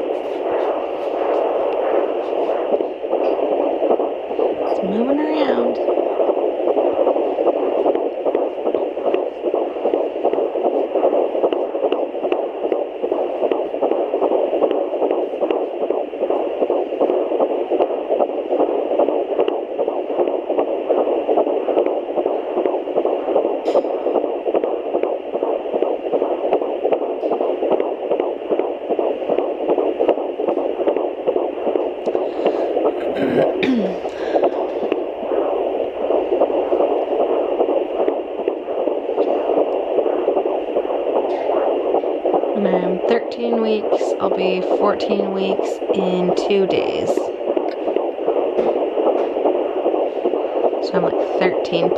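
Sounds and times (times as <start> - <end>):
fetal heartbeat whooshing pulse: 0.0 - 51.9
rubbing crackle: 0.0 - 51.9
static hiss: 0.0 - 51.9.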